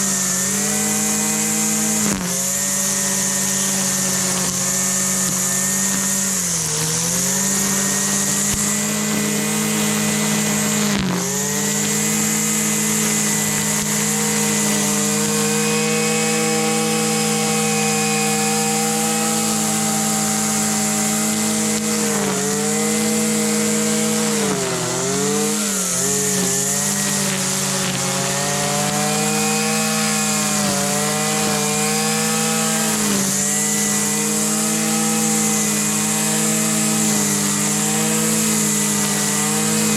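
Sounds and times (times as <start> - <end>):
string trimmer engine running: 0.0 - 39.9.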